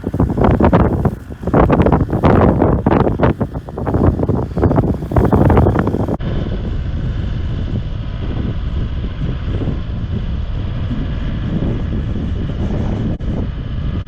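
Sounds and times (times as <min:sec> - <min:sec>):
vehicle engine rumbling: 0:00.0 - 0:14.0
wind gust on microphone: 0:00.0 - 0:14.0.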